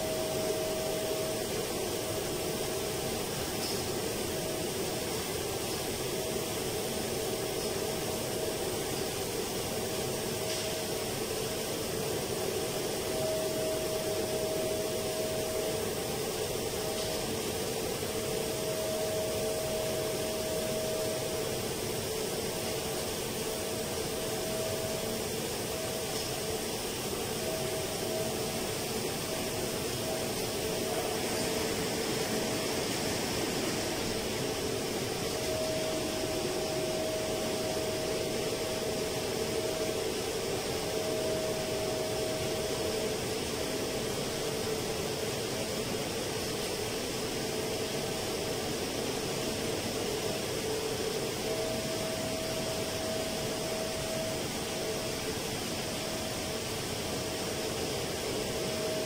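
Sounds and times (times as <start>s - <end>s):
faint whining tone: 0.0s - 59.0s
machinery hum and rush: 0.0s - 59.0s.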